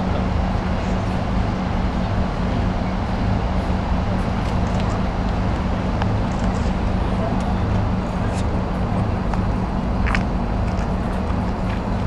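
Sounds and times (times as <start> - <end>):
city traffic rumble: 0.0 - 12.0
low hum: 0.0 - 12.0.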